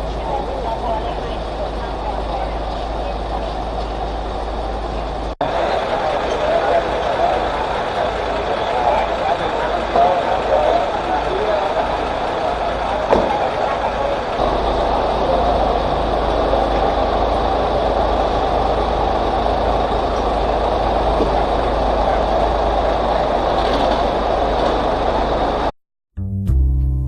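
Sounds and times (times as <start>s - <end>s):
loud engine rumble: 0.0s - 25.7s
pump rushing noise: 0.0s - 25.7s.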